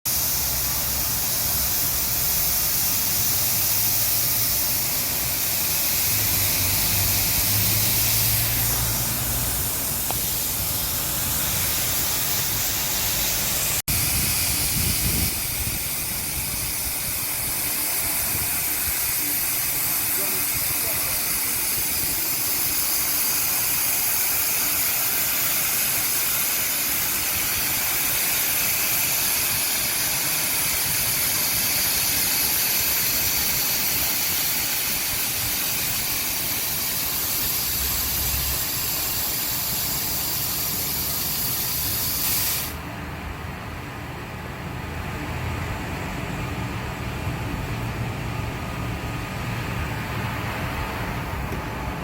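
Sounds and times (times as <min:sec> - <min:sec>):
sweeper suction hiss: 0:00.1 - 0:42.9.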